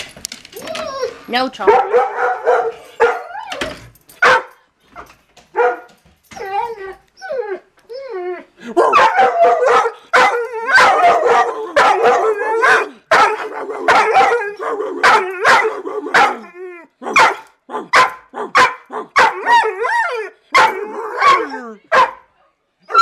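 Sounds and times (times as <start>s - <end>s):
dog barking and howling: 0.6s - 4.6s, 5.5s - 23.0s.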